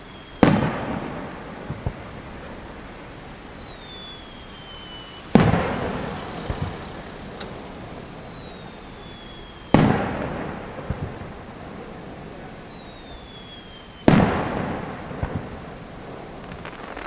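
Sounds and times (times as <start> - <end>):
falling firework whistle: 0.0 - 17.0
firework booms: 0.0 - 17.0
small firework pops: 0.3 - 17.0.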